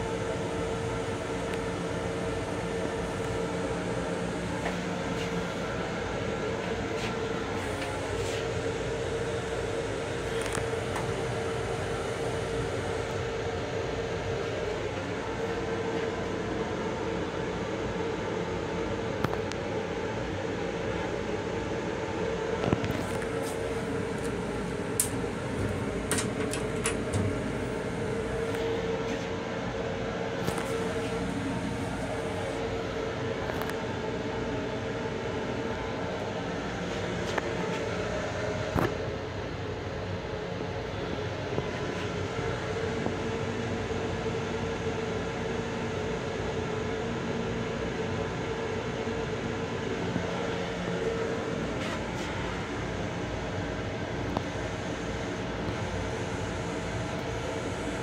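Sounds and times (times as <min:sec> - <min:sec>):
railcar ventilation hum and rush: 0:00.0 - 0:58.0.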